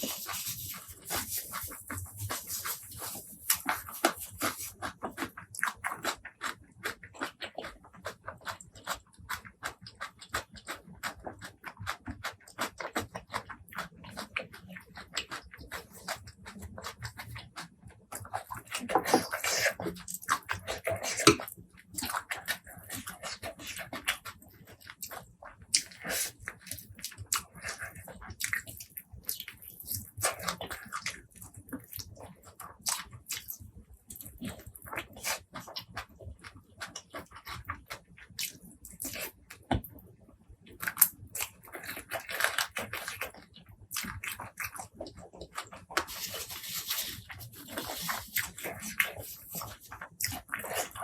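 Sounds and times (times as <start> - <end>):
wet chewing and lip-smacking: 0.0 - 51.0.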